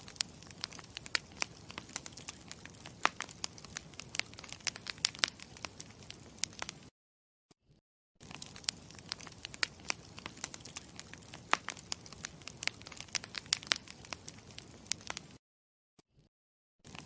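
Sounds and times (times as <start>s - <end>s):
campfire crackling and popping: 0.0s - 6.9s, 8.2s - 15.4s.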